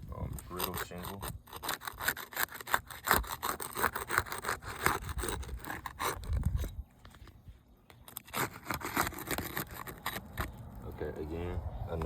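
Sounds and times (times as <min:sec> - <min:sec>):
shingle tearing: 0:00.2 - 0:10.9
tool scraping under roof shingle: 0:00.3 - 0:10.6.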